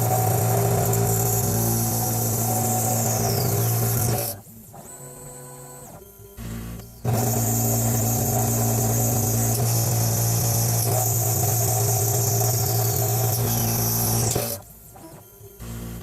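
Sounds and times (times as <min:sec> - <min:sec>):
cnc machine running: 0:00.0 - 0:16.0.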